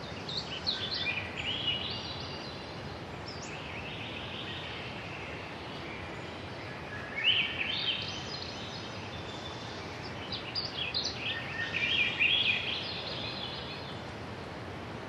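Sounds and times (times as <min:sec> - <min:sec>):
outdoor background hiss: 0:00.0 - 0:15.0
songbirds singing: 0:00.0 - 0:15.0.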